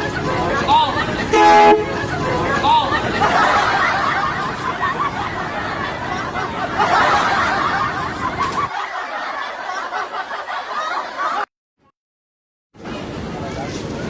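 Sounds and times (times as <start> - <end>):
people laughing and snickering: 0.0 - 11.5.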